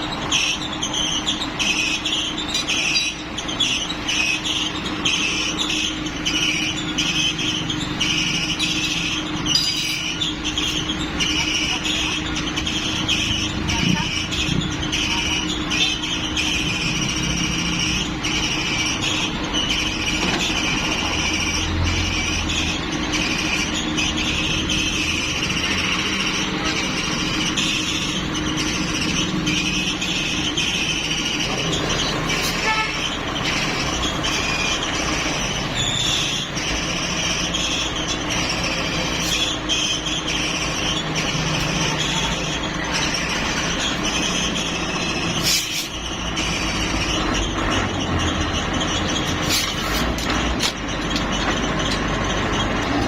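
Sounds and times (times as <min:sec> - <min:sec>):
large engine running: 0:00.0 - 0:53.0.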